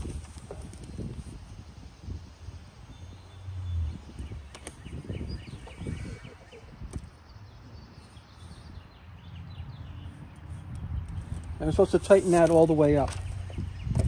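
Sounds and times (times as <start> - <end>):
bird chirping: 1.9 - 14.0.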